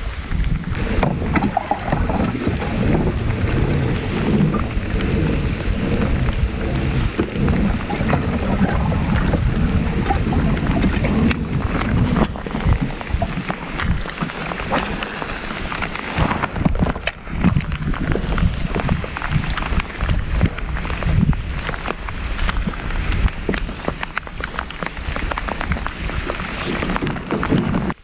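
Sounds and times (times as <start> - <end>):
steady rain falling: 0.0 - 28.0
wind rumbling on microphone: 0.0 - 28.0
sharp raindrop ticks: 0.3 - 16.0, 16.7 - 28.0.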